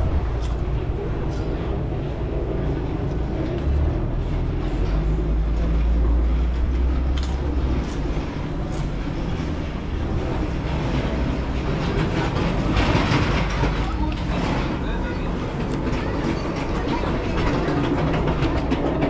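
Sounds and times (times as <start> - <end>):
heavy vehicle low rumble: 0.0 - 19.0.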